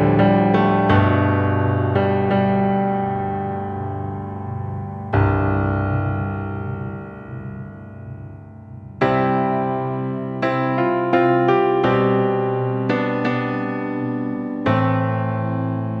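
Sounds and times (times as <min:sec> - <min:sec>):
slow electric piano chords: 0:00.0 - 0:16.0.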